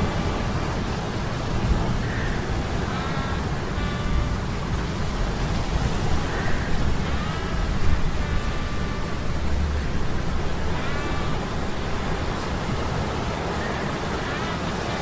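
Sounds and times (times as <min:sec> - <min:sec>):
rain: 0:00.0 - 0:15.0
surf: 0:00.0 - 0:15.0
wind: 0:00.0 - 0:15.0.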